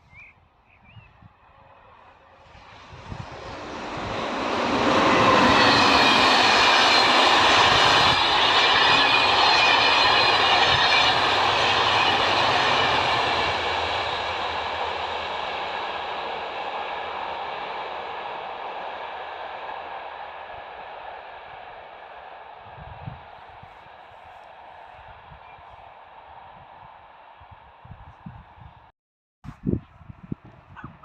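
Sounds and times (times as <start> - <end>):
train wheels rumbling on rail: 1.5 - 26.9.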